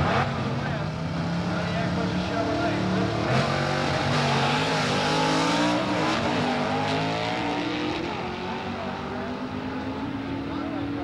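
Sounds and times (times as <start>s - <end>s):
drag racing cars accelerating: 0.0s - 11.0s.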